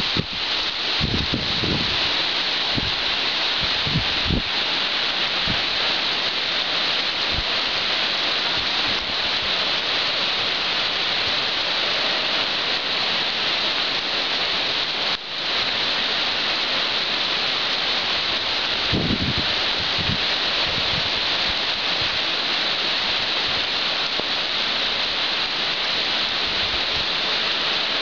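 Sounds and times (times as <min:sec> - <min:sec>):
rain falling steadily: 0:00.0 - 0:28.0.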